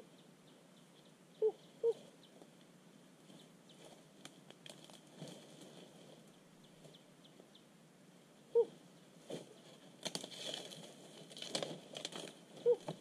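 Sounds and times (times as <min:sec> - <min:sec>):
leaves and twigs rustling: 0:00.0 - 0:07.4, 0:08.6 - 0:13.0.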